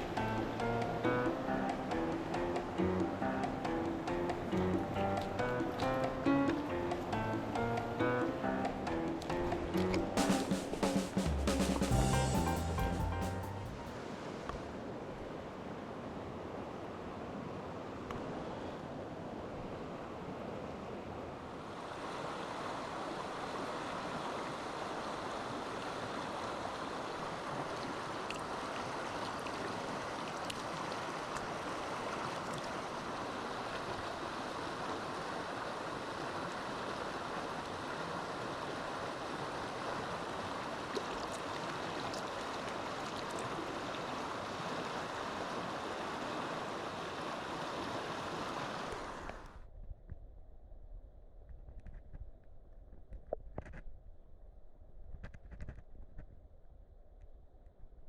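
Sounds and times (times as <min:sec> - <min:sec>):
stream water rushing: 0:00.0 - 0:49.4.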